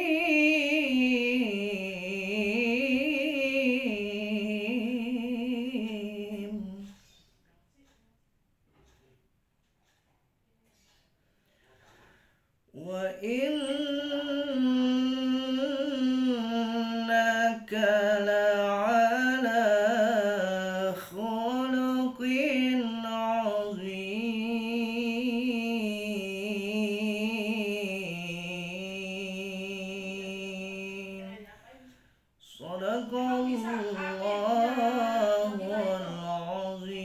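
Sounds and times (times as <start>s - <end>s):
man chanting recitation: 0.0s - 7.0s, 12.7s - 31.5s, 32.4s - 37.0s.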